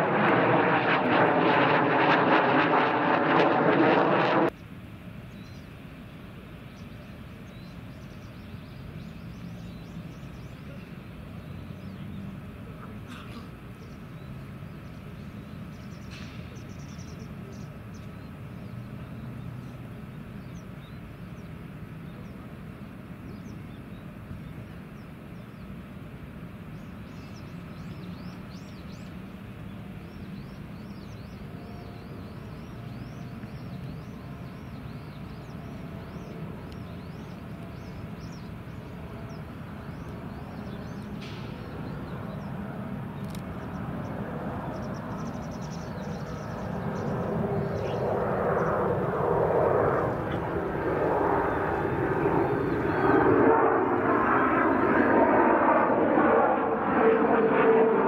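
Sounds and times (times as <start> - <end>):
distant jet engines rumbling: 0.0 - 58.0
small birds chirping: 4.6 - 25.9, 26.5 - 53.2.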